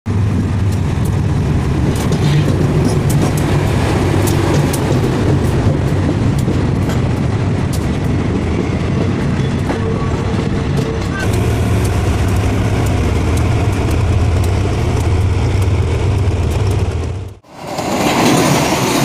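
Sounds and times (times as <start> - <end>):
locomotive engine drone: 0.1 - 8.9, 9.5 - 19.0
wheels clicking over rail joints: 0.1 - 17.4.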